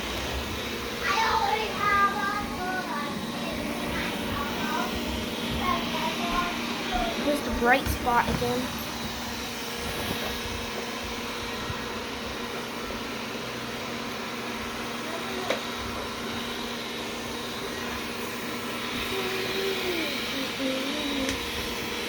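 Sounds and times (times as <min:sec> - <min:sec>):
robot vacuum running: 0:00.0 - 0:22.0.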